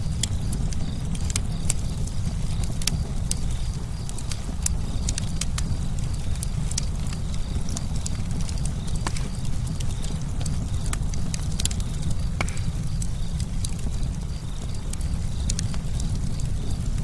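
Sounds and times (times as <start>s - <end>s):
burning wood crackling: 0.0s - 17.0s
campfire flames rumbling: 0.0s - 17.0s.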